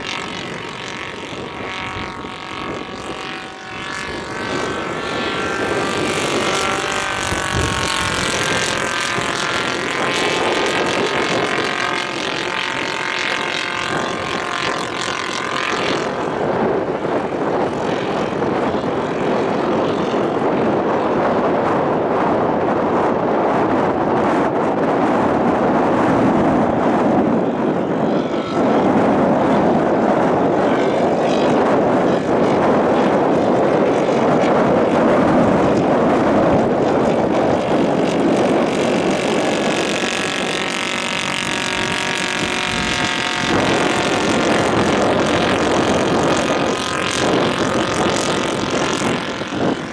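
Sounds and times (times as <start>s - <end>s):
model aircraft propeller engine: 0.0s - 49.9s.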